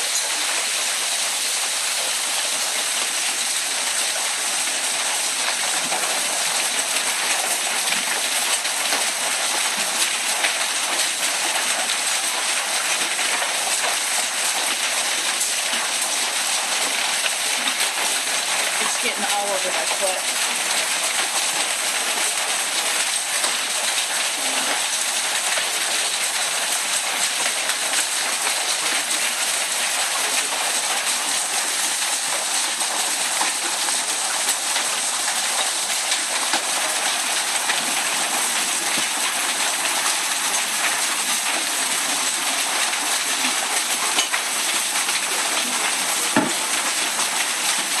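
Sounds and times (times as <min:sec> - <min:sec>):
hail and rain pelting down: 0:00.0 - 0:48.0.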